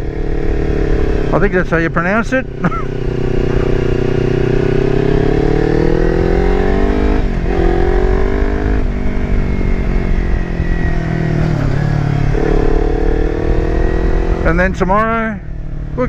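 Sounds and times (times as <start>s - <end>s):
motorcycle engine accelerating: 0.0s - 16.0s
road rumble: 0.0s - 16.0s
wind: 0.0s - 16.0s.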